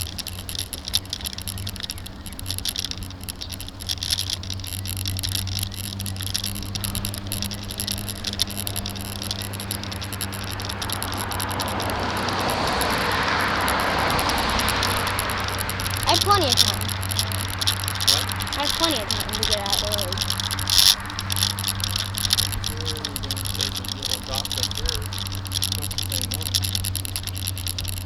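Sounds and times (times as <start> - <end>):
camera rattling and clicking: 0.0 - 28.0.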